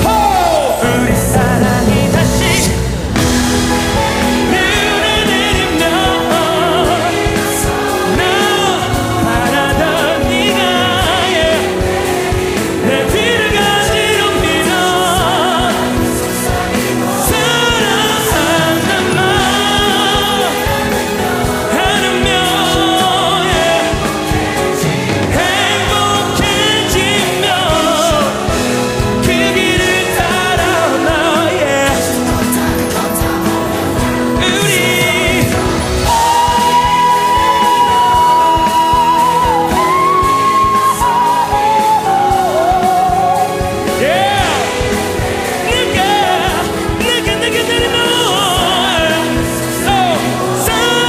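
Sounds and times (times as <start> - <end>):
choir singing: 0.0 - 51.0
drums: 0.0 - 51.0
man singing lead vocal: 0.0 - 51.0
string orchestra: 0.0 - 51.0
timpani: 0.0 - 51.0.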